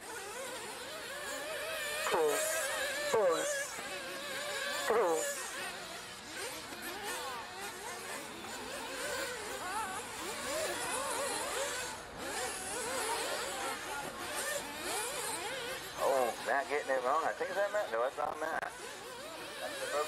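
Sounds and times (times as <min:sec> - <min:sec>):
rc car engines whining: 0:00.0 - 0:20.0.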